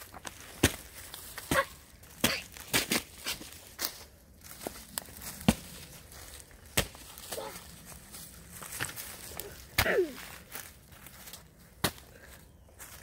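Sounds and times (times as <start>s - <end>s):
footsteps crunching on pine needles: 0.0s - 13.0s.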